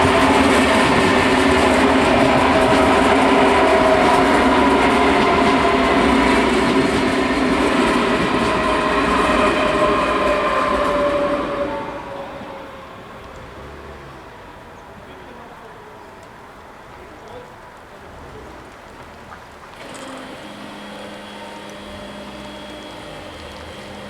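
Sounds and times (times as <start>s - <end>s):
electric train whine: 0.0s - 17.0s, 19.8s - 24.0s
train wheel and rail noise: 0.0s - 24.0s.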